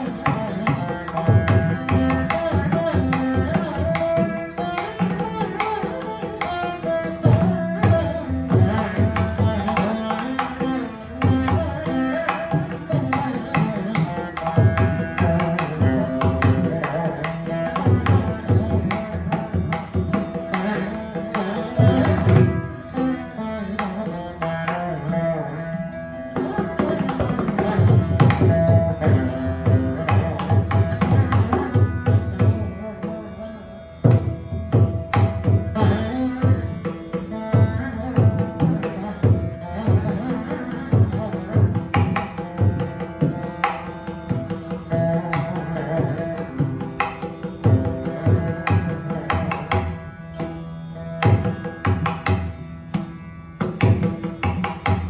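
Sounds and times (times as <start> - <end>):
mridangam drum strokes: 0.0 - 55.0
plucked veena melody: 0.0 - 55.0.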